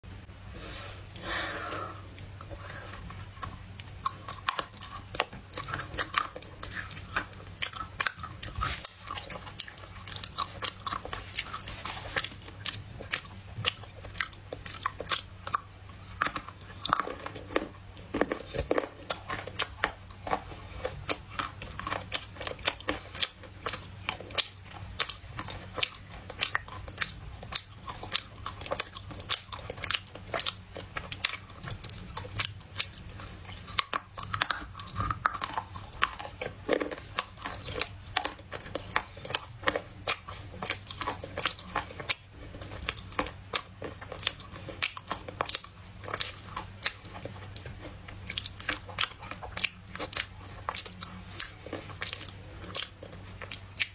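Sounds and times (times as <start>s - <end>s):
clay being chewed with crunches: 1.1s - 53.9s.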